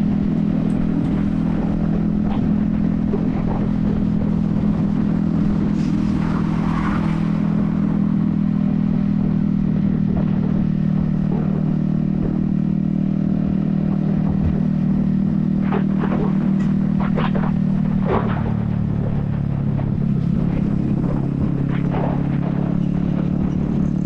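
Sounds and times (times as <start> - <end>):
motorcycle engine cruising: 0.0 - 24.0
wind noise on microphone: 0.0 - 24.0.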